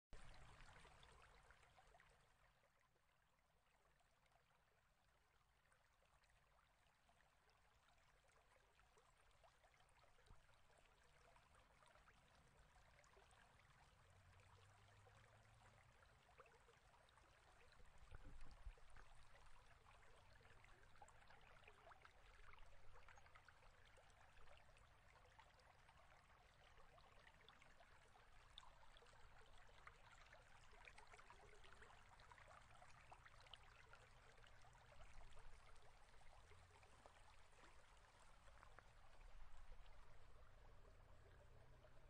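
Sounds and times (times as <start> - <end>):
faint steady hiss: 3.4 - 42.0.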